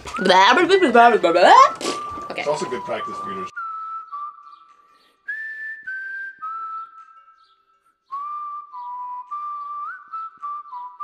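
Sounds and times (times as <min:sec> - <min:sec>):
person whistling a slow tune: 0:00.1 - 0:00.8, 0:01.5 - 0:11.0.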